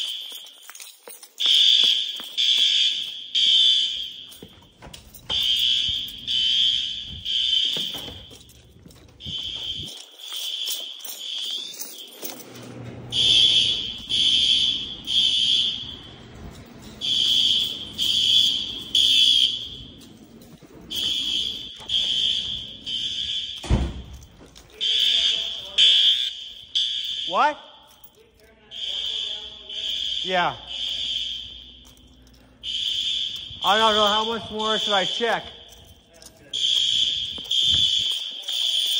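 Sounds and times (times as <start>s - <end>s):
fire alarm horn blasts: 0.0s - 38.9s.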